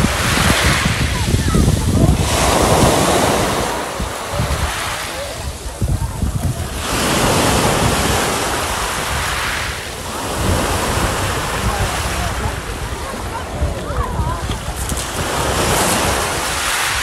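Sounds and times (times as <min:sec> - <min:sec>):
waves breaking on pebble beach: 0:00.0 - 0:17.0
wind buffeting microphone: 0:00.0 - 0:17.0.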